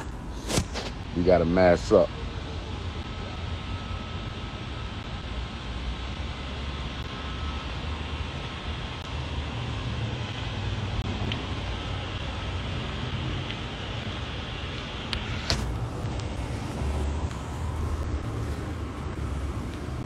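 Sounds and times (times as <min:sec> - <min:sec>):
distant traffic: 0:00.0 - 0:20.0
wind: 0:00.0 - 0:20.0.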